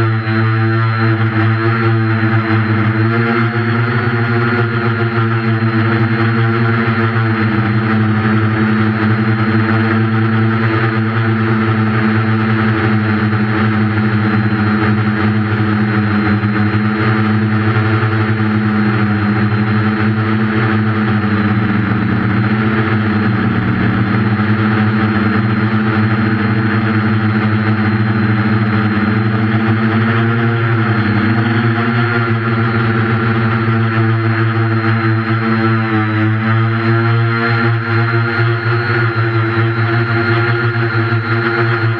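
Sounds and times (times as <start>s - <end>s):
drone propellers droning: 0.0s - 41.9s.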